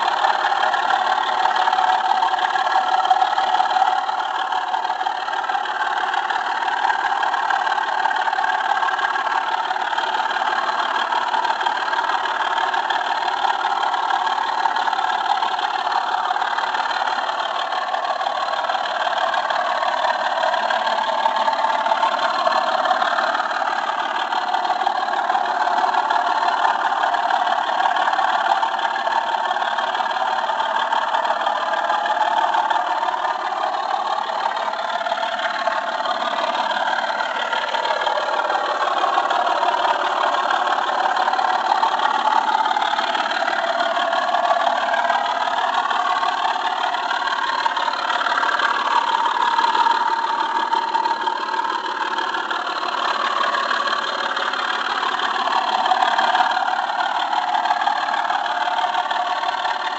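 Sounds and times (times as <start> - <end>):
model train running on track: 0.0 - 59.9.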